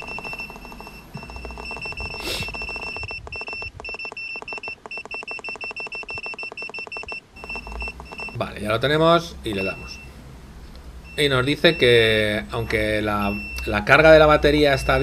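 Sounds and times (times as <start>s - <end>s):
high electronic beeps: 0.0s - 8.7s, 9.4s - 10.2s, 11.0s - 15.0s.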